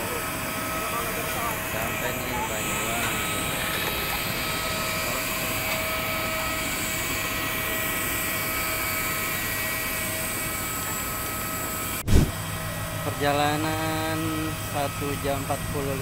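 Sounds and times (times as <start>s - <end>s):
jet engine whine and rush: 0.0s - 16.0s.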